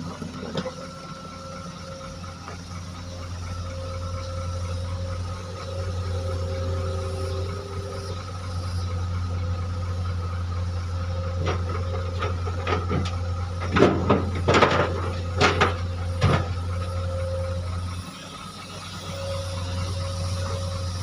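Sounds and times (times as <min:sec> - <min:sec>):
excavator diesel engine drone: 0:00.0 - 0:21.0.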